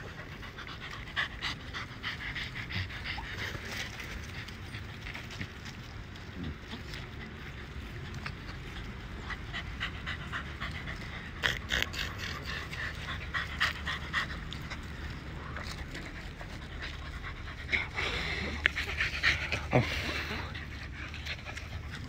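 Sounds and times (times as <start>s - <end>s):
puppies panting: 0.0s - 22.0s.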